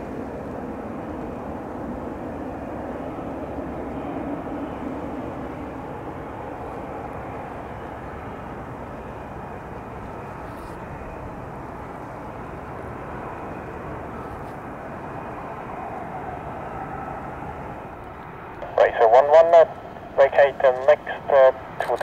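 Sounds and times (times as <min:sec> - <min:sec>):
jet engine rush with whine: 0:00.0 - 0:22.0.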